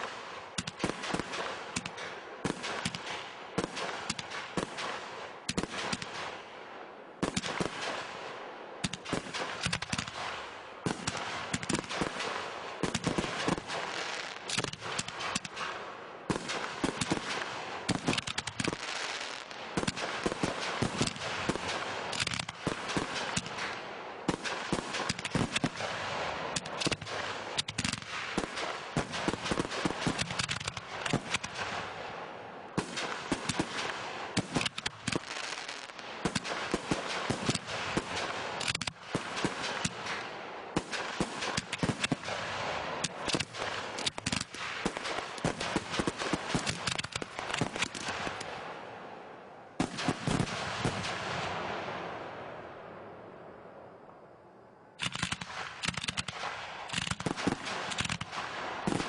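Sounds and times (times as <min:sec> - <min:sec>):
fireworks bangs and crackle: 0:00.0 - 0:52.8, 0:55.0 - 0:59.0.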